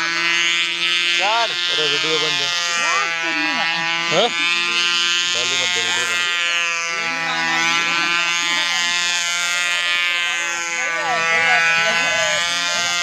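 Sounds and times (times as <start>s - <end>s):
model plane motor buzzing: 0.0s - 13.0s.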